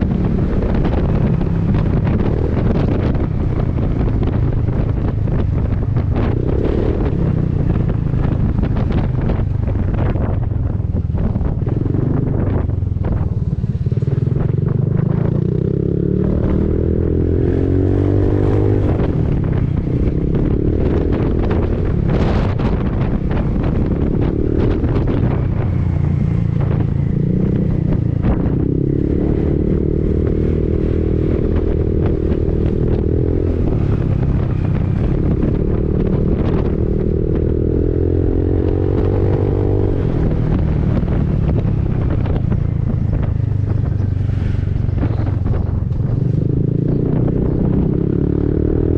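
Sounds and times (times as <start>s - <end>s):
wind noise on microphone: 0.0s - 48.9s.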